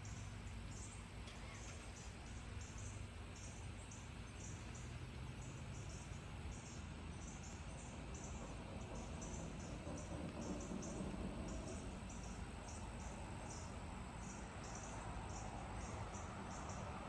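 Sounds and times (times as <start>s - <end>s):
insects calling in pulses: 0.0s - 17.0s.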